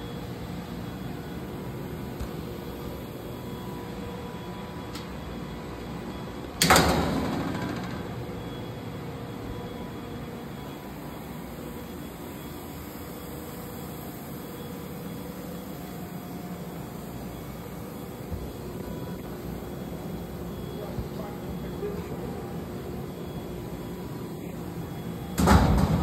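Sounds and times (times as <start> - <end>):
faint whining tones: 0.0 - 26.0
mechanical hum: 0.0 - 26.0.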